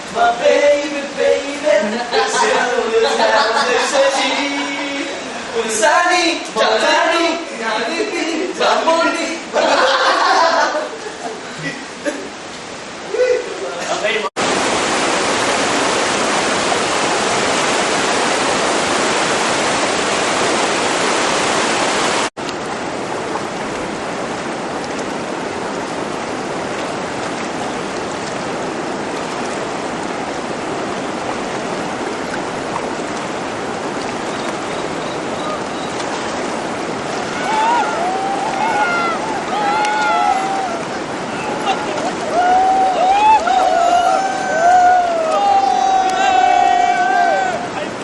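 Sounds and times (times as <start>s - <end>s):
whitewater rushing: 0.0s - 48.0s.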